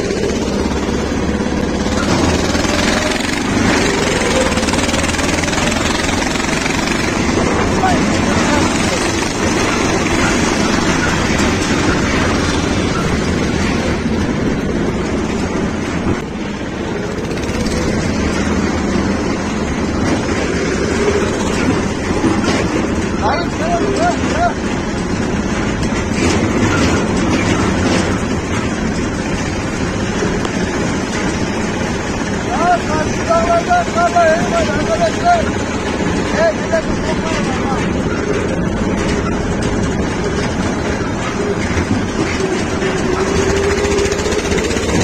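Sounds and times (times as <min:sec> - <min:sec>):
small tractor engine rumble: 0:00.0 - 0:45.0.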